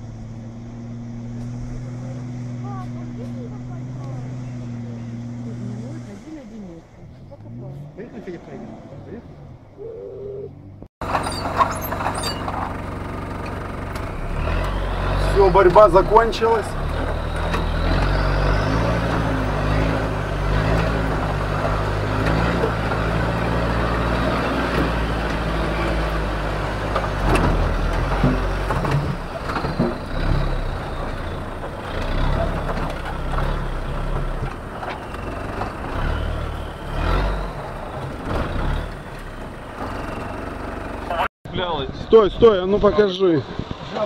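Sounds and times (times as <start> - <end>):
off-road vehicle engine running: 0.0 - 44.0.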